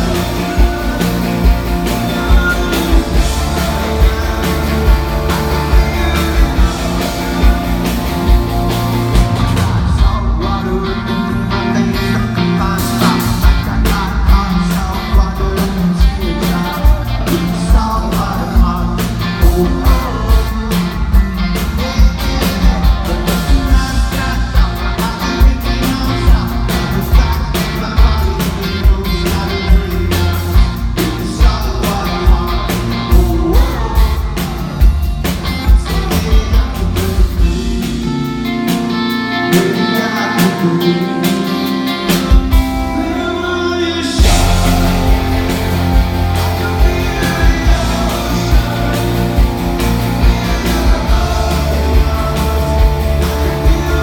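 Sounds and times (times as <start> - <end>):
drums keeping steady beat: 0.0 - 10.6, 12.7 - 43.3, 44.0 - 54.0
guitars: 0.0 - 54.0
person singing: 0.0 - 54.0.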